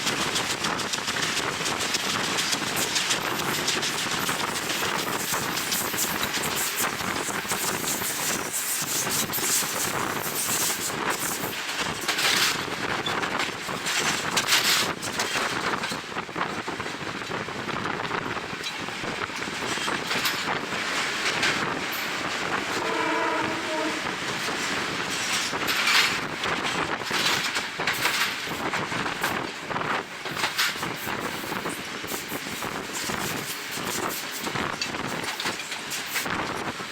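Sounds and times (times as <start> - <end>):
moving train clatter: 0.0 - 36.9
wind buffeting microphone: 0.0 - 36.9.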